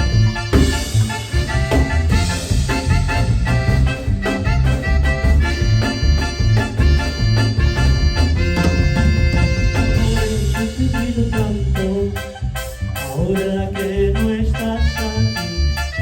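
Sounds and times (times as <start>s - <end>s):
bass and drum beat: 0.0s - 16.0s
melodic lead line: 0.0s - 16.0s.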